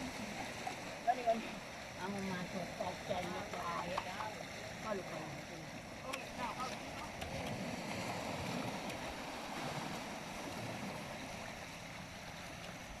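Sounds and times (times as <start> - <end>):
sea waves washing on beach: 0.0 - 13.0.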